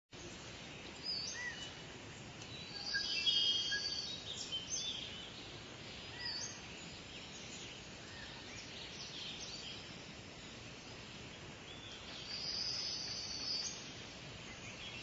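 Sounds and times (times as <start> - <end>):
birds chirping: 0.2 - 15.0
steady background hiss: 0.2 - 15.0.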